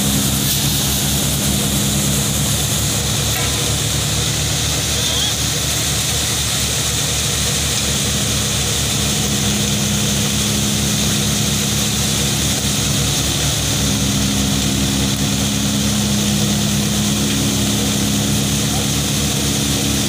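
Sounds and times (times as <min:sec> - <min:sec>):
thresher drum and fan whirring: 0:00.0 - 0:20.0
tractor diesel engine pulsing: 0:00.0 - 0:20.0.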